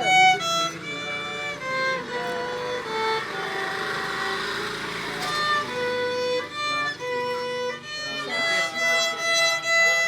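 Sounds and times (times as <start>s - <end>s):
violin melody: 0.0s - 10.0s.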